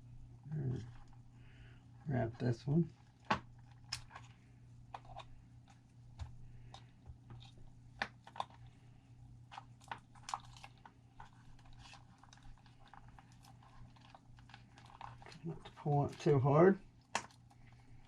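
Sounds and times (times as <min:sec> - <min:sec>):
steady low hum: 0:00.0 - 0:18.0
clicks and crinkles of handled wires: 0:00.6 - 0:01.2, 0:02.0 - 0:08.8, 0:09.5 - 0:18.0.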